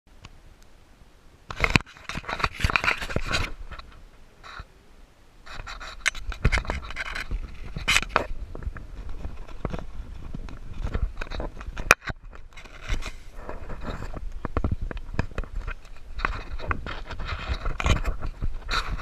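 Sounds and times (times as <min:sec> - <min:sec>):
wind rumble on microphone: 0:00.3 - 0:04.6, 0:05.4 - 0:19.0.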